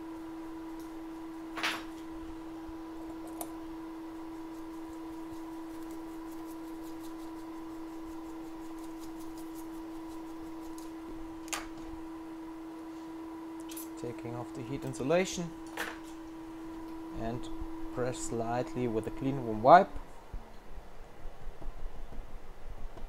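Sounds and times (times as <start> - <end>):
mid-pitched hum: 0.0 - 23.0.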